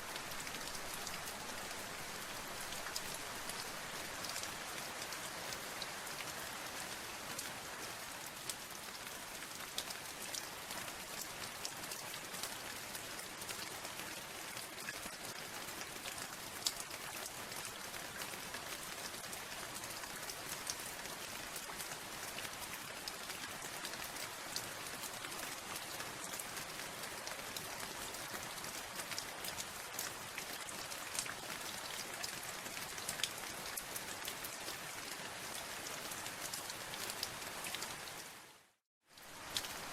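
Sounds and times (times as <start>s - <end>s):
rain drops pattering on hard surface: 0.0s - 39.9s.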